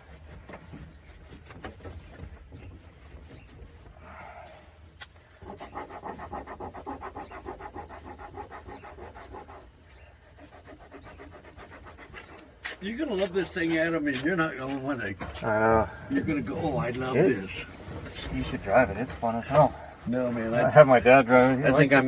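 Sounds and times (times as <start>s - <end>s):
hand scrubbing a surface: 0.0s - 22.0s.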